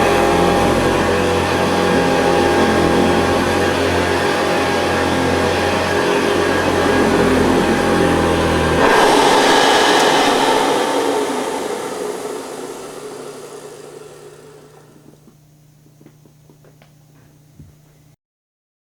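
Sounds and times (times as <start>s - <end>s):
vacuum cleaner motor running: 0.0s - 17.0s.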